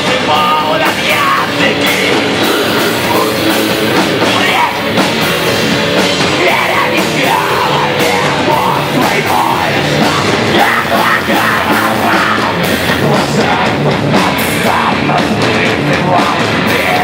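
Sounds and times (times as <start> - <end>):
bass guitar: 0.0 - 17.0
distorted electric guitars: 0.0 - 17.0
drum kit: 0.0 - 17.0.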